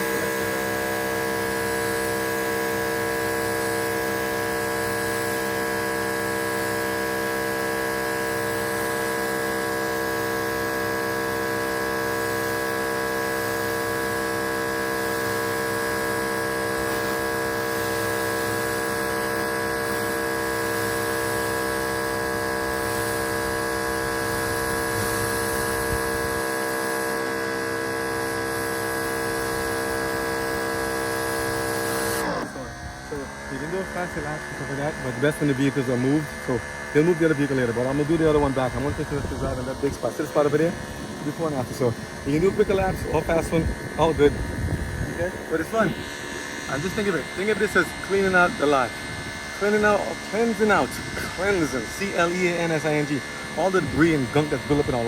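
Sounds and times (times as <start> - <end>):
pressure washer humming drone: 0.0 - 55.0.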